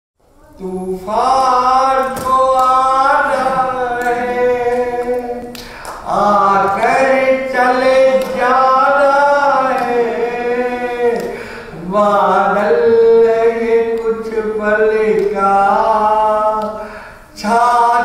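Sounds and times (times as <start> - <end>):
man singing unaccompanied: 0.4 - 18.0.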